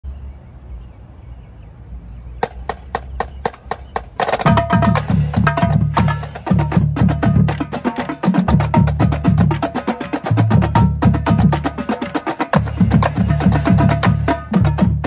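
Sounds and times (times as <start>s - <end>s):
marching drumline playing cadence: 2.4s - 15.0s.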